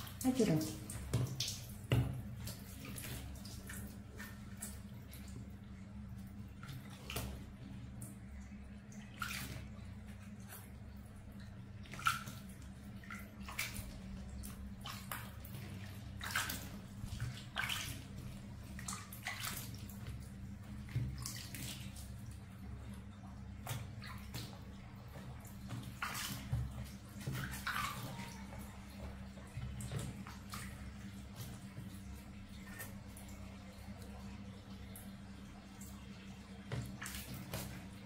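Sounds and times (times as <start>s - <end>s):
water splashing and dripping: 0.0s - 38.0s.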